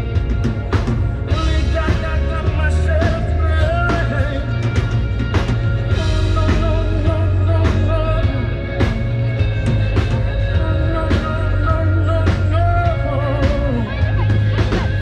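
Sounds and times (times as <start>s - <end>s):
drums: 0.0s - 15.0s
guitars and heavy bass: 0.0s - 15.0s
person singing with vibrato: 1.2s - 5.1s, 5.8s - 15.0s.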